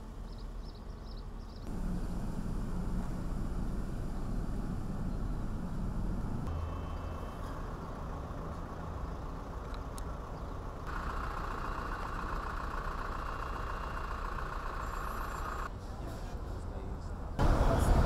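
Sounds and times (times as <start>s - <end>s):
ship machinery hum and rumble: 0.0s - 18.0s.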